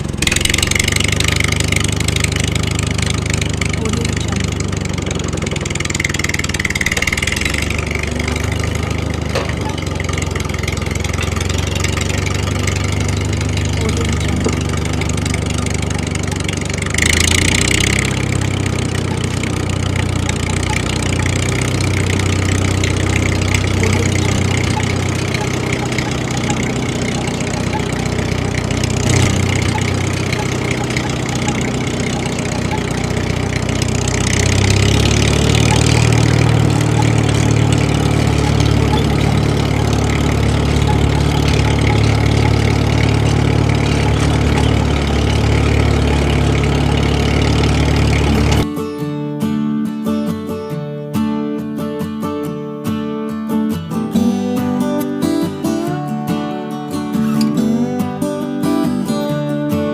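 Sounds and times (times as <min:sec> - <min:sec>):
engine idling: 0:00.0 - 0:48.7.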